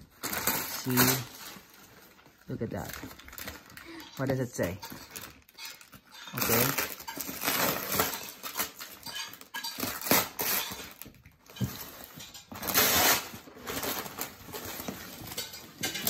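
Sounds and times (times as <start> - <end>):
gift wrap crinkling: 0.0 - 16.0.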